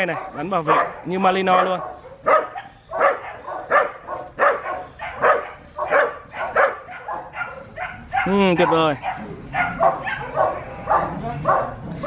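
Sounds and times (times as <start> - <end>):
dog barking sharply: 0.1 - 11.8.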